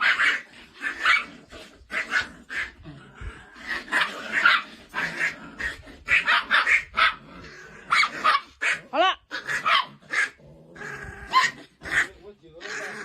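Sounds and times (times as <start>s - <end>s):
dogs barking and yapping: 0.0s - 13.0s.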